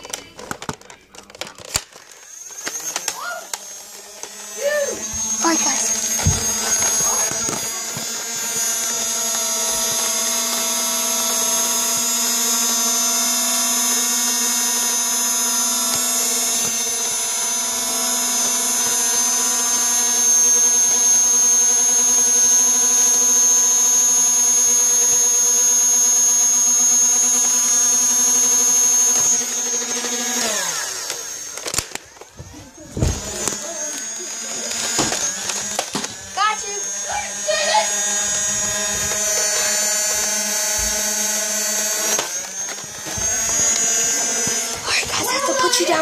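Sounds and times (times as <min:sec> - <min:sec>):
small electric motor whining: 0:00.0 - 0:46.0.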